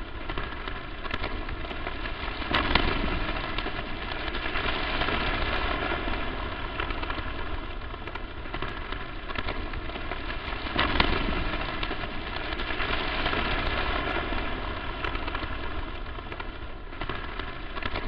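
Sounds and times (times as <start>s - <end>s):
crackling static: 0.0s - 18.0s.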